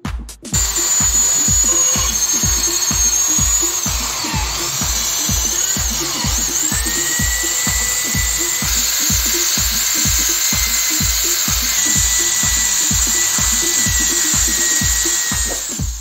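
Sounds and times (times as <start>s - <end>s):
electronic dance music: 0.0s - 16.0s
electric drill wire brush scrubbing: 0.6s - 16.0s.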